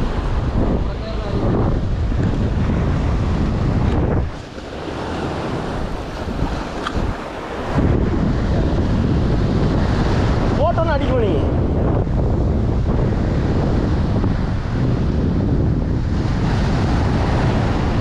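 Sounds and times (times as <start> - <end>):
surf washing on shore: 0.0 - 18.0
wind buffeting microphone: 0.0 - 18.0.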